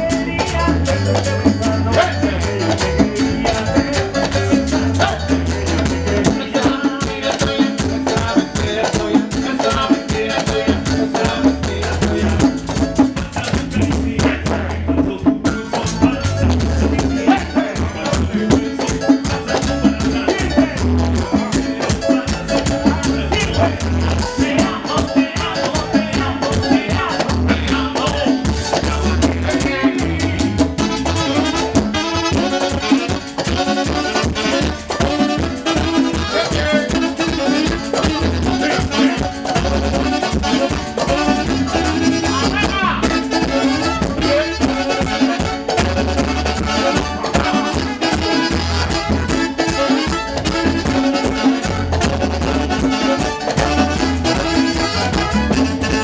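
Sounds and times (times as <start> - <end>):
live salsa band playing: 0.0 - 56.0
pulsing bass line: 0.0 - 56.0
saxophones and trumpet: 0.0 - 56.0.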